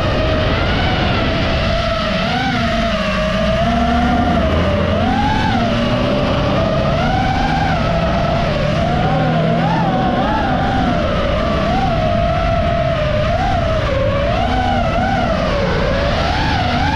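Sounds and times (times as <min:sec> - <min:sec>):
quadcopter motors whining: 0:00.0 - 0:16.9.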